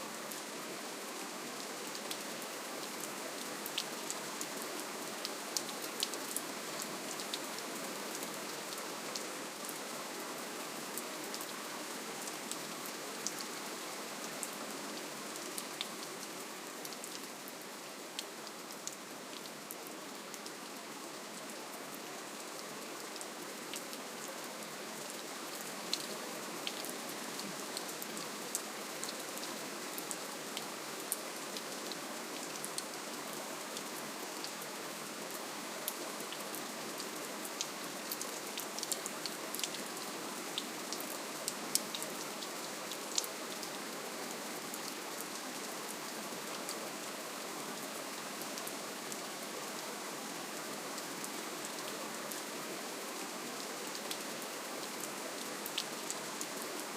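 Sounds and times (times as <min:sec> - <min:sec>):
gentle rain hiss: 0:00.0 - 0:56.9.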